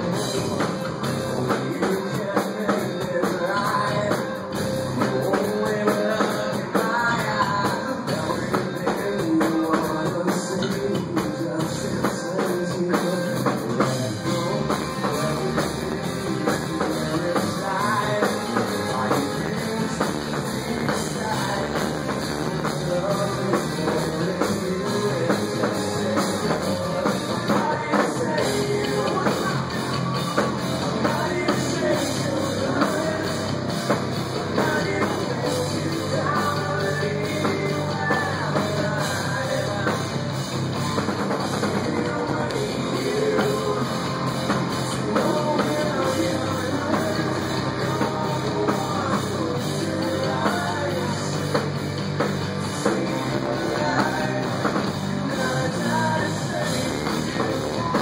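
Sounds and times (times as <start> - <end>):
bass guitar: 0.0 - 58.0
drum kit: 0.0 - 58.0
electric guitar: 0.0 - 58.0
person singing: 0.0 - 58.0.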